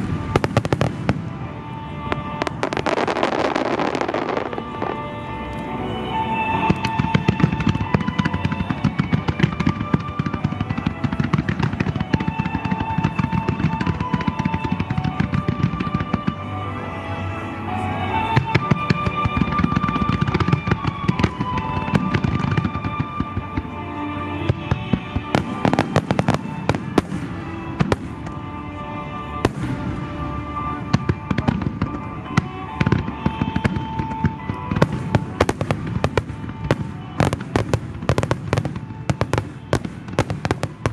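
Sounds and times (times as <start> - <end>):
fireworks bursting and crackling: 0.0 - 40.9
music with sustained notes: 0.0 - 40.9.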